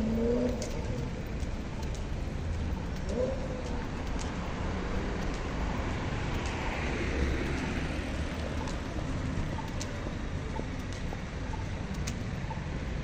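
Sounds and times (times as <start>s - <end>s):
faint ticks: 0.0s - 13.0s
traffic rumble: 0.0s - 13.0s
vehicle passing: 0.0s - 13.0s.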